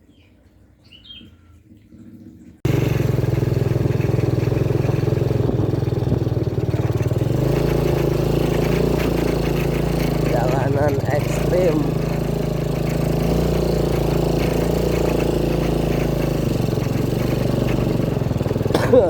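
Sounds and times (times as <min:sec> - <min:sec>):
motorcycle engine running: 0:02.6 - 0:19.0.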